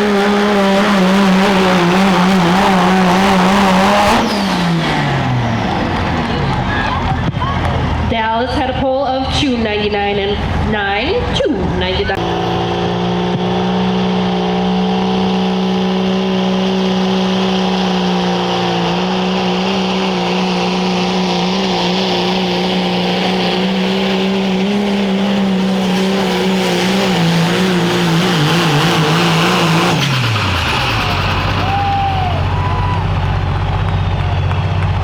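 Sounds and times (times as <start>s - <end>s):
pulling vehicle engine running flat out: 0.0s - 35.0s.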